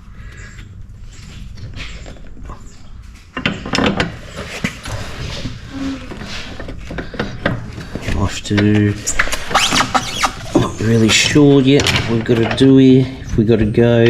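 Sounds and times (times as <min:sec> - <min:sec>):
metal clanks and scrapes: 0:01.1 - 0:13.5.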